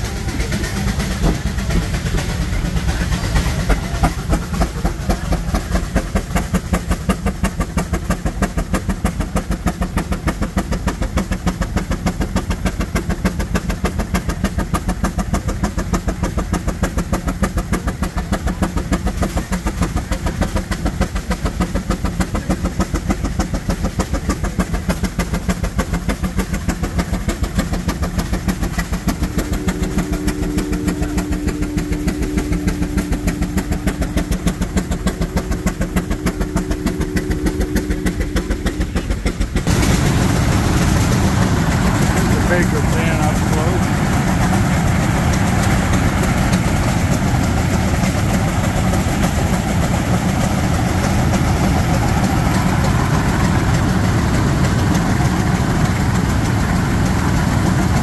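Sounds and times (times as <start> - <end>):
antique engine running: 0.0 - 58.0.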